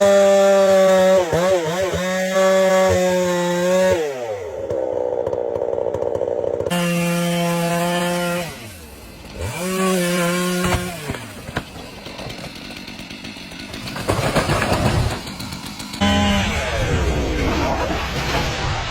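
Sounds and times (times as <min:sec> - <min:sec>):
chainsaw cutting wood: 0:00.0 - 0:16.4.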